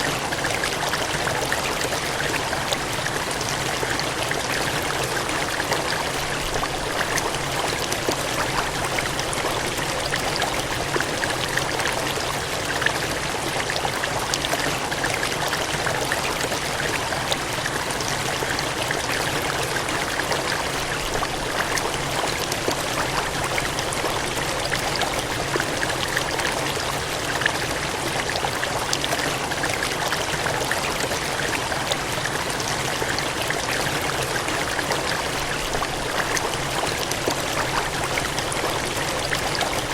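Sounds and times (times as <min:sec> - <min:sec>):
water gushing and splashing: 0:00.0 - 0:39.9.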